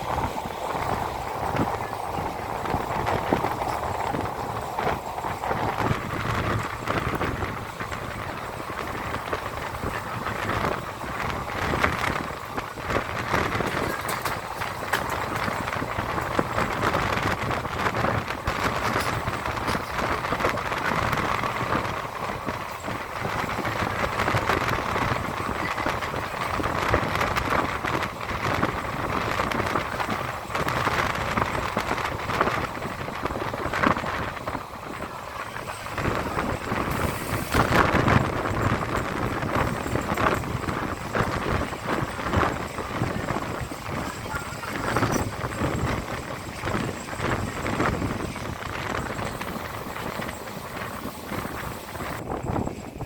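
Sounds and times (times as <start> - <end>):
train wheels clattering on rails: 0.0 - 53.0
wheels clacking: 0.0 - 53.0.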